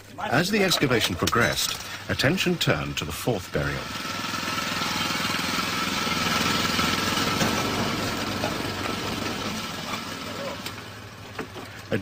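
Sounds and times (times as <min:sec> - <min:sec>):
small stationary engine running: 0:01.5 - 0:12.0.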